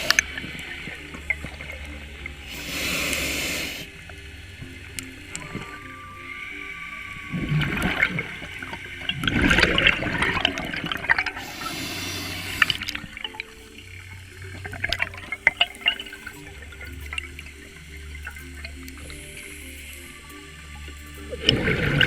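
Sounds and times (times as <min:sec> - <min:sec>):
underwater regulator bubbles: 0:00.0 - 0:22.0.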